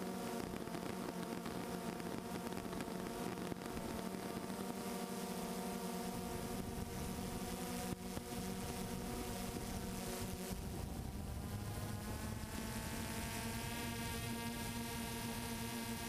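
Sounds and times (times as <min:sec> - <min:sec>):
drone propellers humming: 0:00.3 - 0:16.0.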